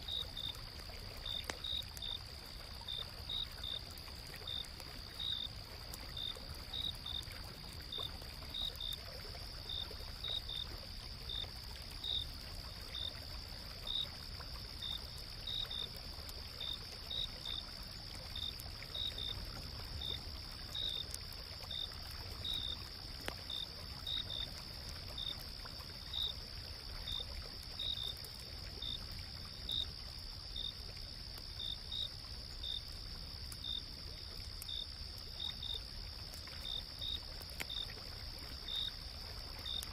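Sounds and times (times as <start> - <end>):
cricket chirping: 0.0 - 39.9
stream water flowing: 0.0 - 39.9.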